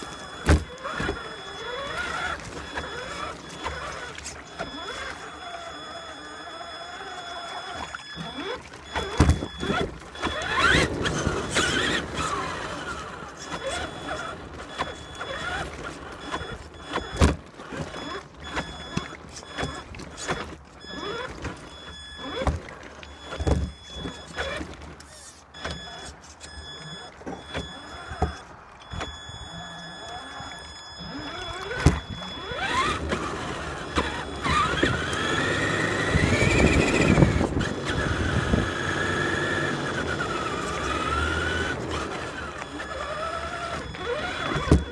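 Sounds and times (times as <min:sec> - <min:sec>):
electric motor whining: 0:00.0 - 0:19.0, 0:27.6 - 0:44.9
water splashing: 0:00.0 - 0:44.9.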